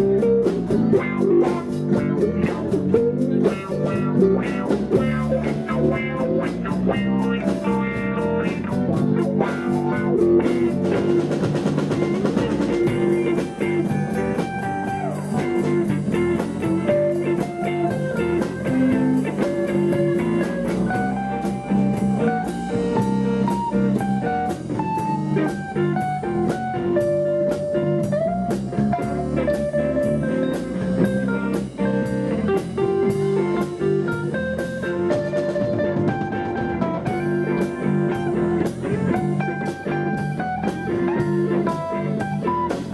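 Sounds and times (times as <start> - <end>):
drum kit beat with cymbals: 0.0 - 42.9
electric bass: 0.0 - 42.9
electric guitar lead: 0.0 - 42.9.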